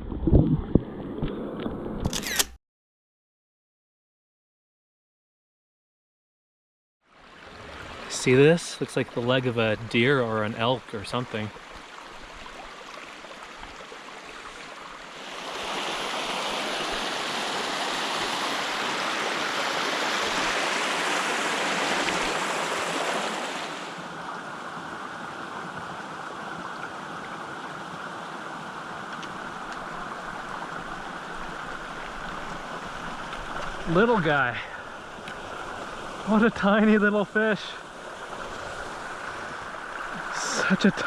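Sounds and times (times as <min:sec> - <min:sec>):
creek running over rocks: 0:07.1 - 0:41.0.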